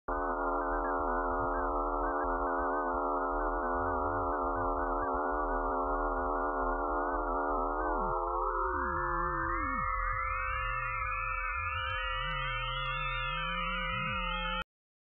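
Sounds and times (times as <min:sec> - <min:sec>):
electronic drone of layered tones: 0:00.1 - 0:14.6.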